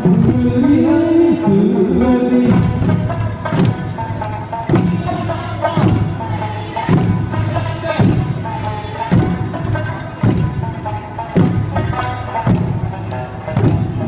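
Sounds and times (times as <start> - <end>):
folk dance music: 0.0 - 14.0
large drums struck in unison: 0.0 - 14.0.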